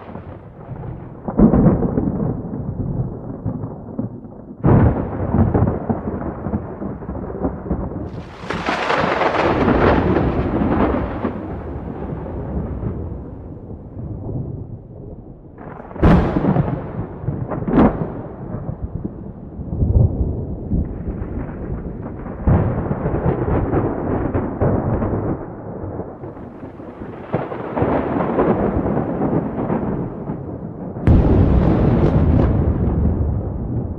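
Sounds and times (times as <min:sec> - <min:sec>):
rolling thunder rumble: 0:00.0 - 0:33.9
sharp thunder cracks: 0:00.0 - 0:33.9.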